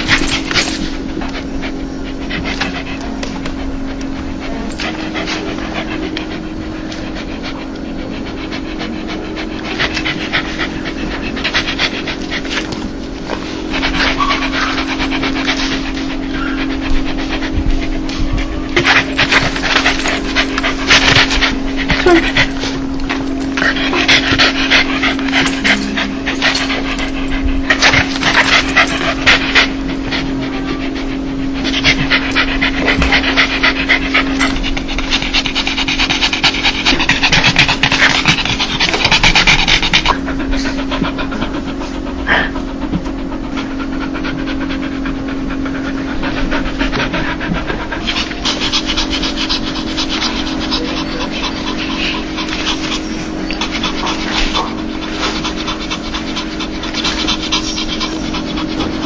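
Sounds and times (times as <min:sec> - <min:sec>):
dog panting fast: 0:00.0 - 0:59.0
steady low hum: 0:00.0 - 0:59.0.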